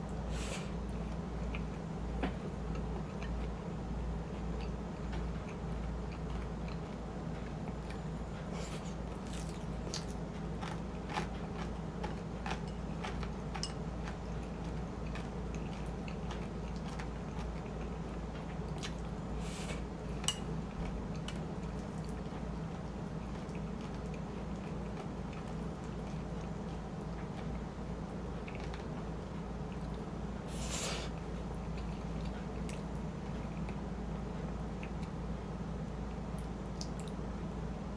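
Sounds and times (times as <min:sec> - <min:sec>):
chewing and wet mouth sounds: 0:01.0 - 0:01.9, 0:04.3 - 0:27.7, 0:28.3 - 0:30.2, 0:31.2 - 0:35.2, 0:36.3 - 0:37.2.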